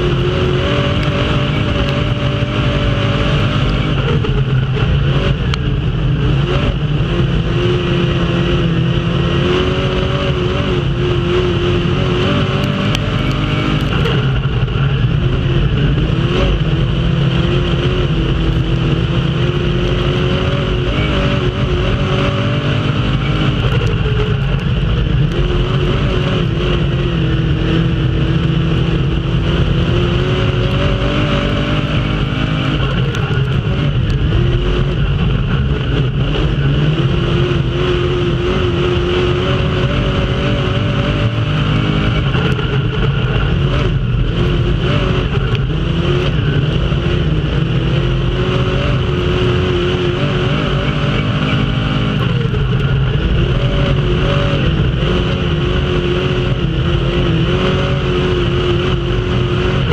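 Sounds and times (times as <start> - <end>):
race car engine revving: 0.0 - 59.9
rumble of wind and track noise: 0.0 - 59.9.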